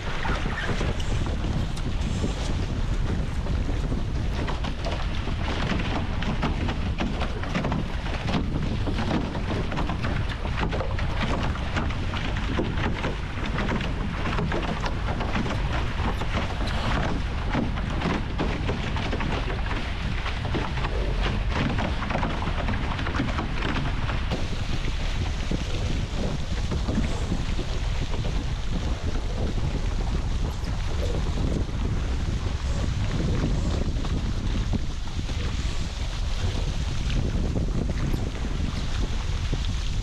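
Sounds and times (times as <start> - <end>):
water rushing along hulls: 0.0 - 40.0
wind buffeting microphone: 0.0 - 40.0.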